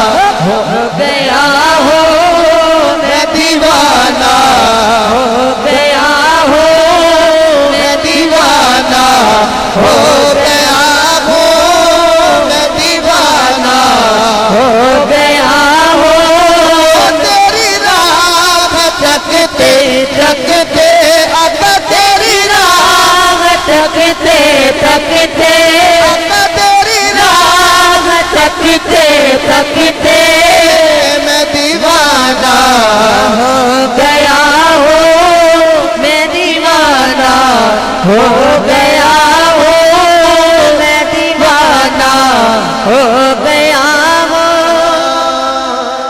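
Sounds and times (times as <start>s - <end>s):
man singing wavering chant: 0.0s - 46.0s.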